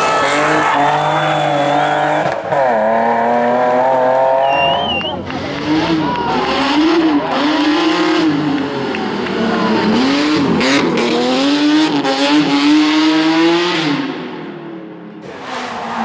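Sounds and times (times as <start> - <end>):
car engine revving hard: 0.0 - 14.5.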